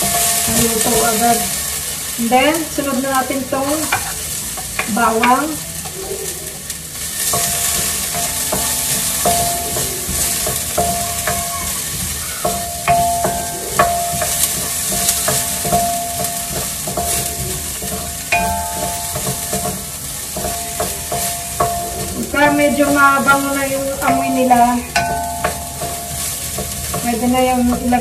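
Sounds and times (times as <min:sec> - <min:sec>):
garlic sizzling in hot oil: 0:00.0 - 0:28.0
metal pan ringing: 0:00.0 - 0:28.0
wooden spatula scraping pan: 0:00.0 - 0:28.0.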